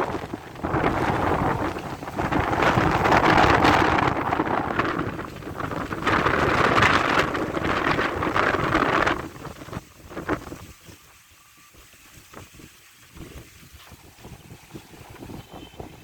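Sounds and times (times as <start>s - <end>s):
heavy rain pouring: 0.0s - 16.0s
wind buffeting microphone: 0.0s - 16.0s.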